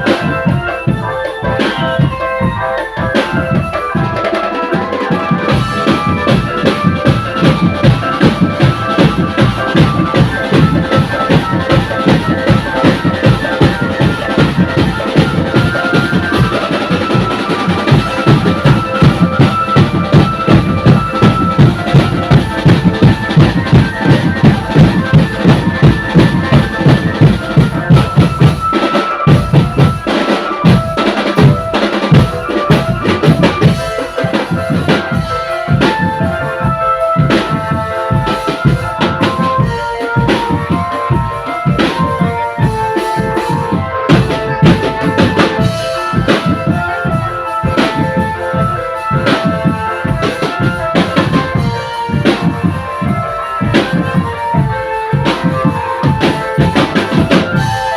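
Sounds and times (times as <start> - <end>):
drum band playing: 0.0 - 57.9
melody line: 0.0 - 57.9.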